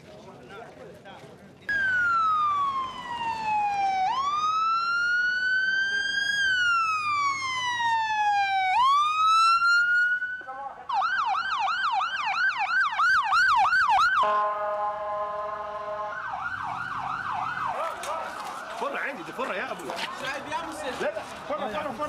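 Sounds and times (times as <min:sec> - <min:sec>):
ambulance siren: 0:01.7 - 0:22.0.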